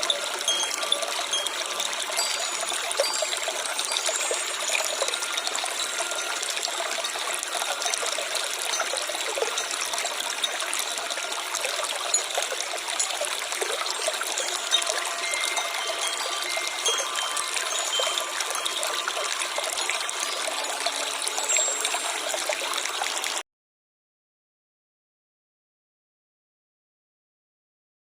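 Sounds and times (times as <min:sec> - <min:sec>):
stream trickling over stones: 0:00.0 - 0:23.4.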